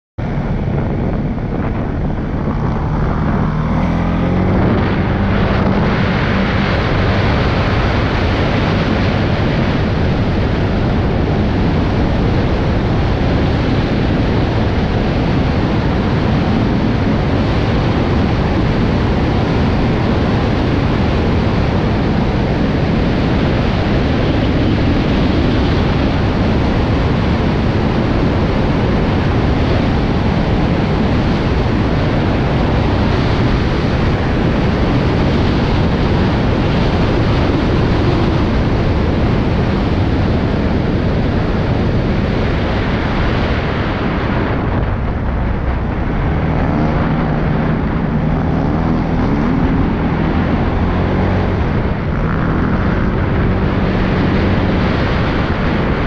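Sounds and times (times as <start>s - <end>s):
engine revving: 0.2s - 56.0s
wind on microphone: 0.2s - 56.0s.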